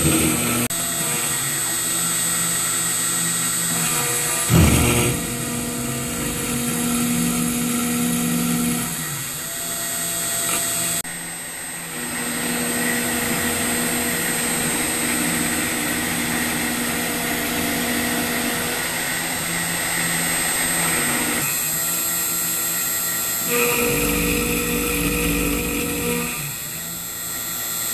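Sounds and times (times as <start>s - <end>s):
router milling metal: 0.0s - 27.9s.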